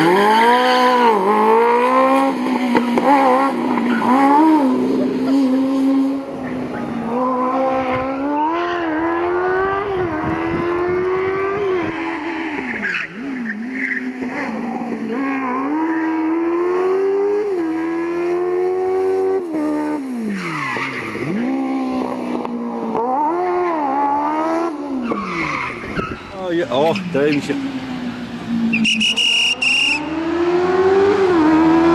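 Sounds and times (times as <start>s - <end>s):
motorcycle engine revving high: 0.0s - 20.3s, 20.9s - 25.1s, 26.7s - 31.9s.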